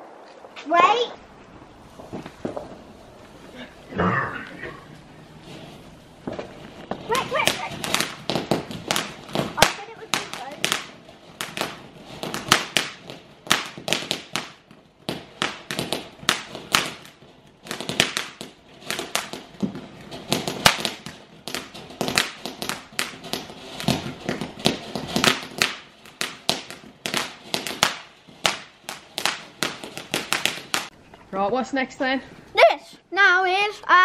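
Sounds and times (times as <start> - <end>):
firework crackling pops: 0.0 - 31.0.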